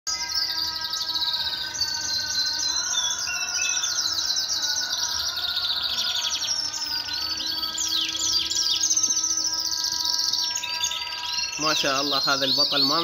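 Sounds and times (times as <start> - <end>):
canaries trilling and chirping: 0.1 - 13.0.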